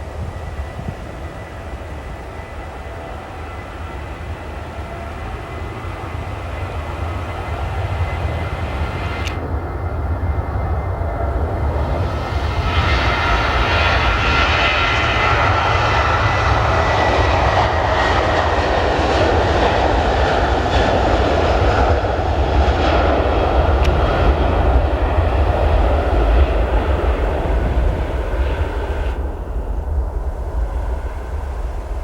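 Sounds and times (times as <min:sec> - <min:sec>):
airliner engines roaring: 0:00.0 - 0:32.0.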